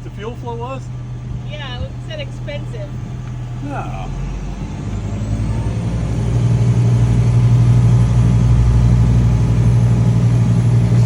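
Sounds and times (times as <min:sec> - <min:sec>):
boat engine running at high revs: 0:00.0 - 0:11.0.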